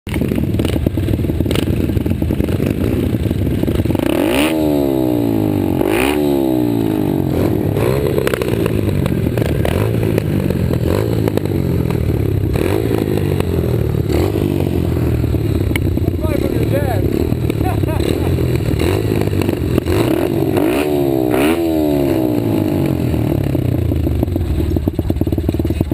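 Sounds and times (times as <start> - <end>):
pit bike engines revving: 0.1 - 25.9.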